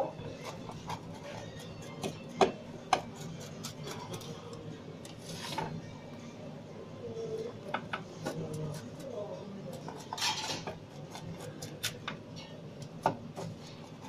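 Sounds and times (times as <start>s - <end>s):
kitchen background hum: 0.0s - 14.0s.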